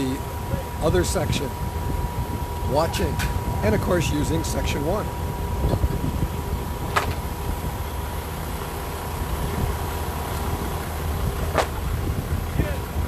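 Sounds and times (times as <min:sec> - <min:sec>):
low engine rumble: 0:00.0 - 0:13.0
thin steady hum: 0:00.0 - 0:13.0.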